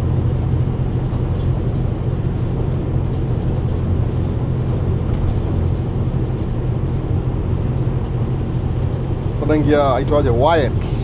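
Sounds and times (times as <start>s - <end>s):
engine and tyre rumble in cabin: 0.0s - 11.0s.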